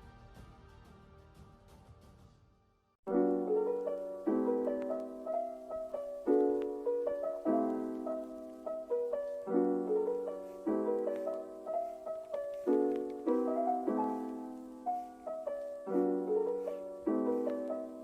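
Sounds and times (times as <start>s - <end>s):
soft piano chords: 3.1s - 18.0s.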